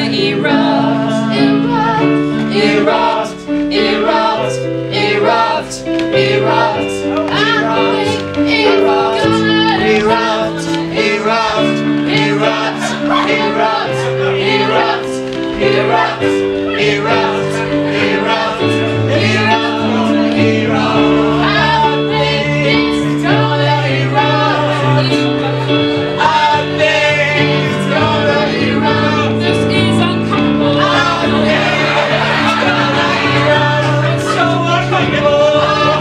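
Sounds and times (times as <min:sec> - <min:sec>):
electric keyboard chords: 0:00.0 - 0:36.0
several voices singing: 0:00.0 - 0:36.0.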